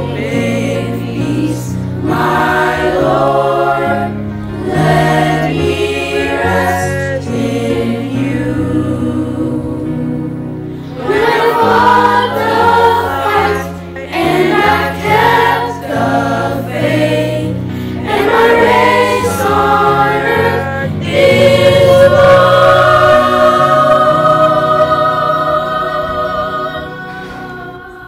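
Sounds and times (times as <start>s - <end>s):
children's choir singing gospel: 0.0s - 28.0s.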